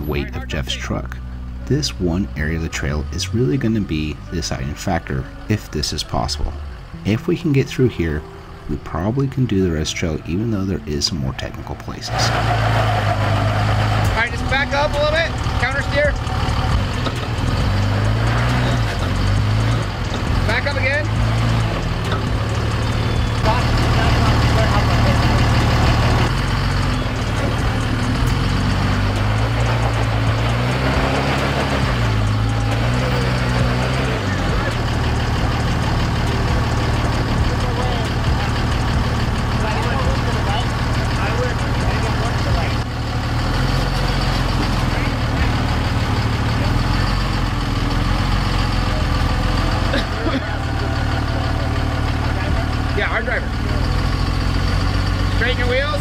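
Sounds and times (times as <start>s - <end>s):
truck engine running at low revs: 0.0s - 56.0s.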